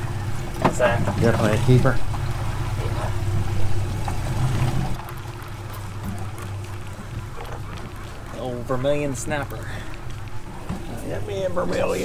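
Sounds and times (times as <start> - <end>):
boat engines idling: 0.0 - 12.0
water noise: 0.0 - 12.0
wind: 0.0 - 12.0.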